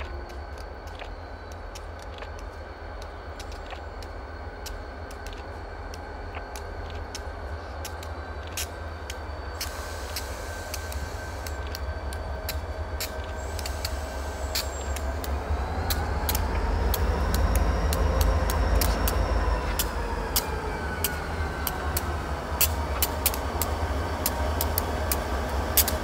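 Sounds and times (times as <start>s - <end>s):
diesel locomotive rumble: 0.0s - 26.0s
faint whine: 0.0s - 26.0s
sharp clicks: 0.0s - 26.0s.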